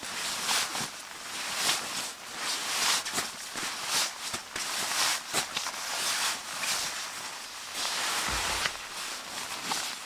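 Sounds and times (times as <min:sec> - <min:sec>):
nylon fabric rustling: 0:00.0 - 0:10.0.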